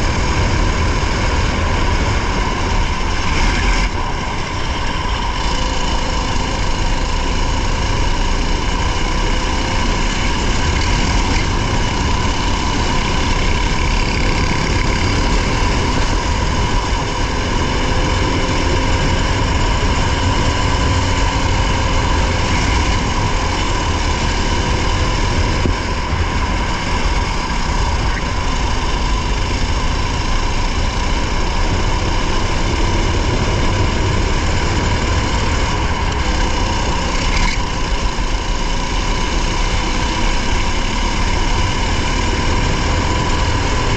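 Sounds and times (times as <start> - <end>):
rally car engine droning: 0.0 - 43.9.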